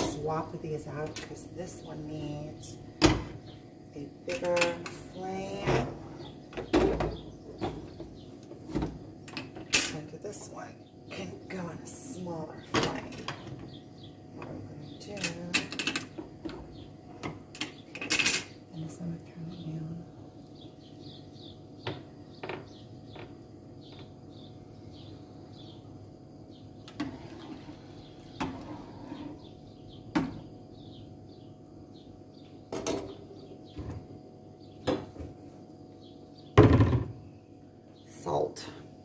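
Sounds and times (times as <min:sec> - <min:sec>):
small birds chirping: 0:00.1 - 0:09.4, 0:10.0 - 0:36.6.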